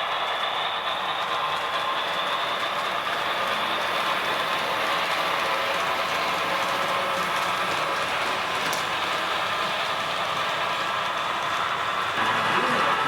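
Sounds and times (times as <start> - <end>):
model train gearing whirr: 0.0 - 13.0.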